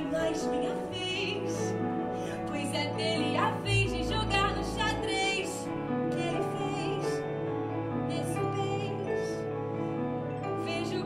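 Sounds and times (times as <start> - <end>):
woman singing: 0.0 - 7.3, 8.1 - 9.4, 10.6 - 11.0.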